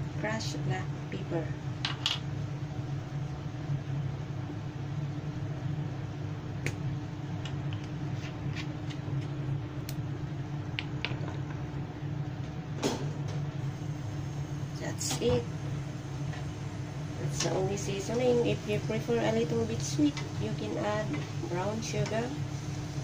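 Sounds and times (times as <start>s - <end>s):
low hum of kitchen machinery: 0.0s - 23.0s.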